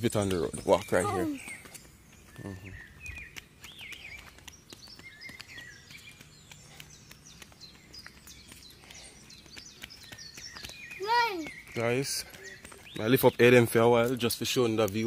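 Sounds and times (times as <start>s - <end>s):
footsteps on paved road: 0.0s - 15.0s
small birds chirping: 0.0s - 15.0s.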